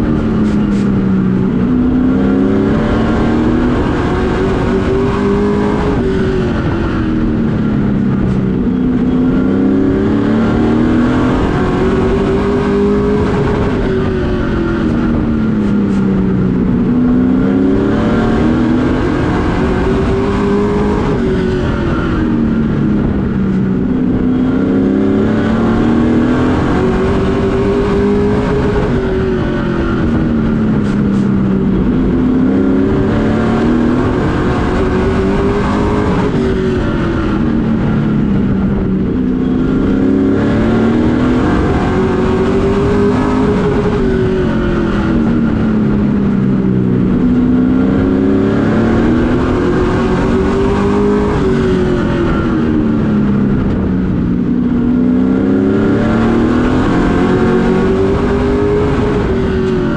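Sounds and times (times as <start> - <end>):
race truck engine revving: 0.0 - 59.9.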